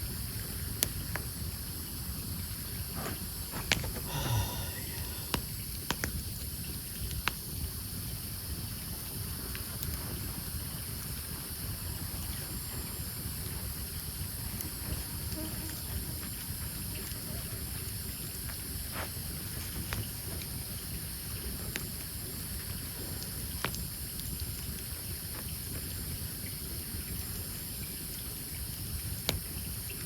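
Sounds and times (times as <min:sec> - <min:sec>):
campfire hissing and crackling: 0:00.0 - 0:30.0.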